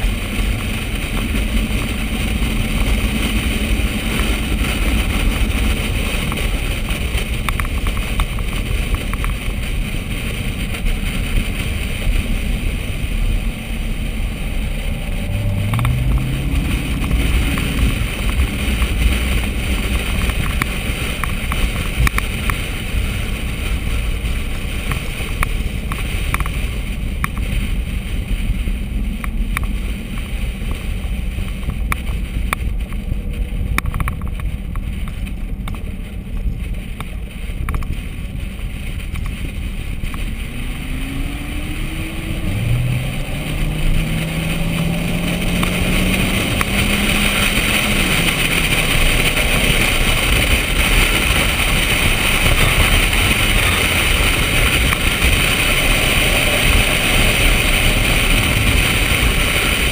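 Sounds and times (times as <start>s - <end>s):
car engine rumble: 0.0s - 59.9s
road and wind noise: 0.0s - 59.9s.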